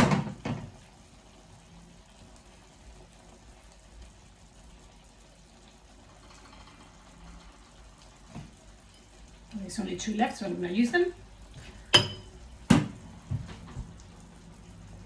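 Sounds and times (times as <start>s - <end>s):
rice and stock simmering in a pan: 0.0s - 15.0s.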